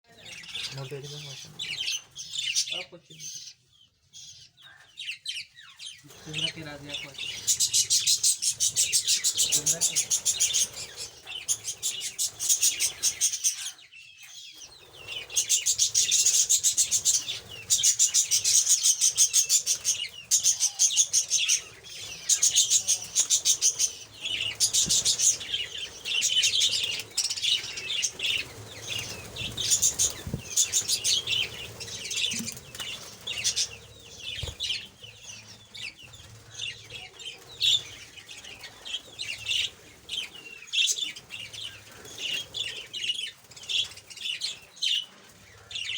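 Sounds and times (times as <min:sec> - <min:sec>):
birds chattering trills: 0:00.1 - 0:45.9.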